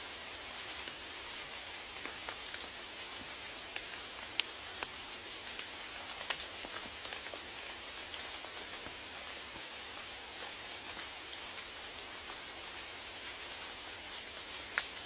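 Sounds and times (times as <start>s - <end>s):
raindrops ticking on a surface: 0.0s - 15.0s
steady rain hiss: 0.0s - 15.0s.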